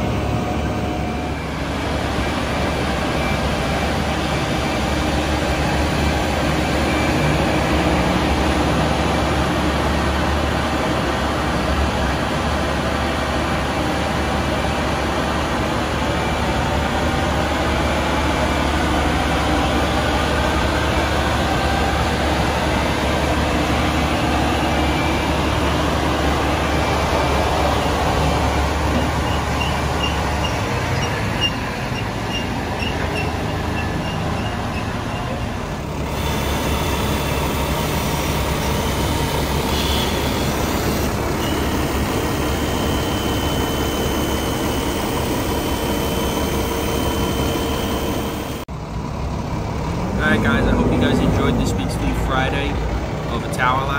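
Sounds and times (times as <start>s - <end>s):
diesel engine and hydraulics droning: 0.0s - 53.9s.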